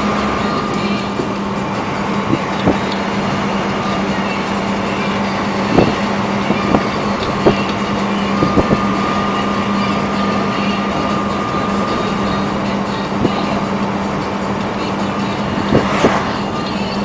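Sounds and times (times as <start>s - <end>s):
high whine: 0.0s - 17.0s
road noise: 0.0s - 17.0s
truck engine hum: 0.0s - 17.0s.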